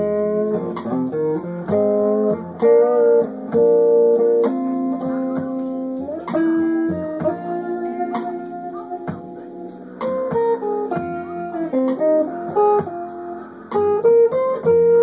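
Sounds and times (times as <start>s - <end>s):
electric guitar blues lead: 0.0s - 15.0s.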